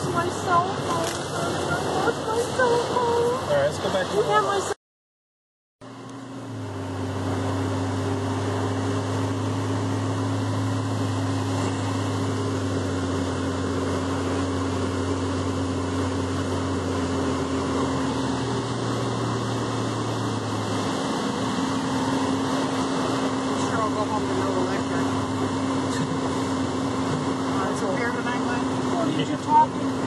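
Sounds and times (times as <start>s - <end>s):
vehicle cabin drone and hiss: 0.0s - 4.8s, 5.8s - 30.0s.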